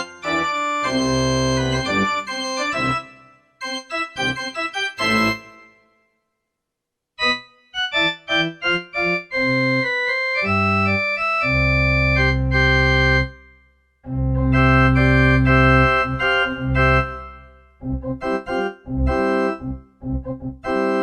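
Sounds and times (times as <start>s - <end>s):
electronic keyboard organ tone: 0.0s - 5.9s, 7.2s - 13.5s, 14.1s - 21.0s.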